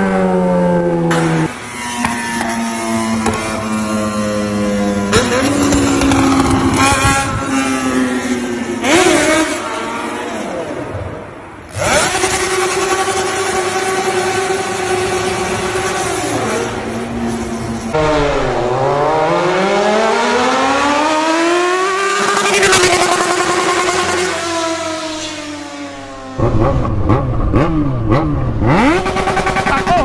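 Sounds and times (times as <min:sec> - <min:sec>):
loud motorcycle engine revving: 0:02.9 - 0:10.9, 0:11.6 - 0:30.0.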